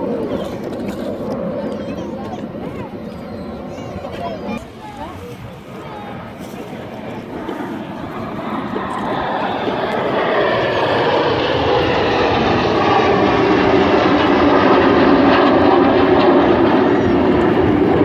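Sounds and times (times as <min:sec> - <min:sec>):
jet engines roaring overhead: 0:00.0 - 0:18.0.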